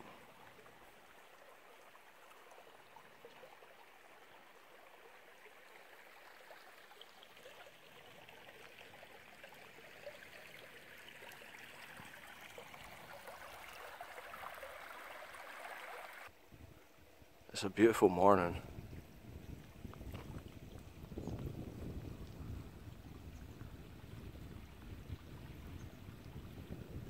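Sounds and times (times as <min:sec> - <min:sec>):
stream trickling over stones: 0:00.0 - 0:27.0.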